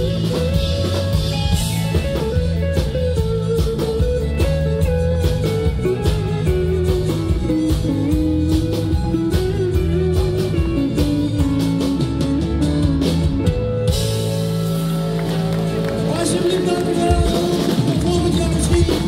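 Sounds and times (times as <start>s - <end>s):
live country band playing: 0.0s - 19.0s.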